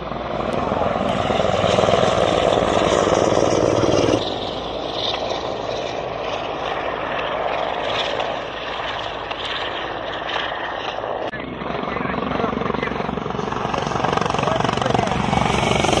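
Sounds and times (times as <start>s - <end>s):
helicopter rotor and turbine: 0.0s - 16.0s.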